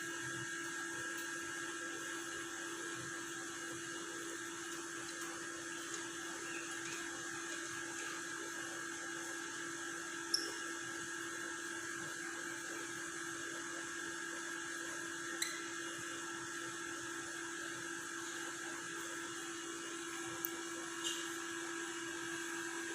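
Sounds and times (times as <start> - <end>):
small electric motor whine: 0.0 - 22.9.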